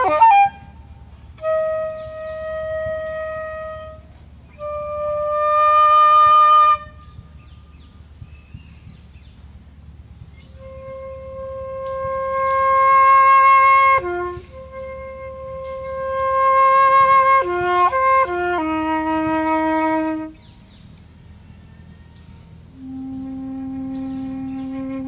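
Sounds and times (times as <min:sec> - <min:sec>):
solo flute playing: 0:00.0 - 0:07.8, 0:10.4 - 0:20.6, 0:22.7 - 0:25.0.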